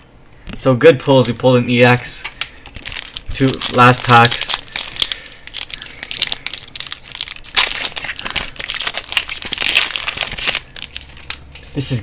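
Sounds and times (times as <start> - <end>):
foil wrapper crinkling: 1.0 - 12.0.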